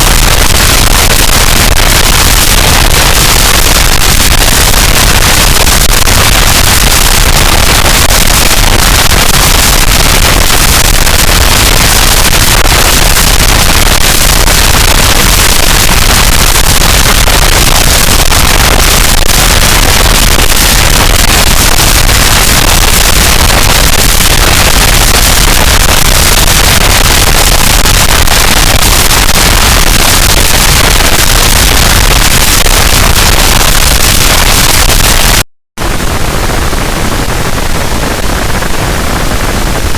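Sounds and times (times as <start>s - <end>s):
harsh distorted static noise: 0.0s - 39.9s.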